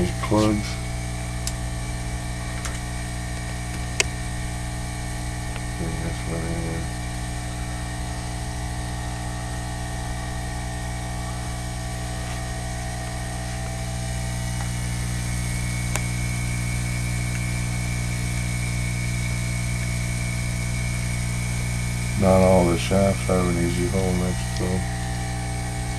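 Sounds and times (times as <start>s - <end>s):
machine hum with high whine: 0.0s - 25.9s.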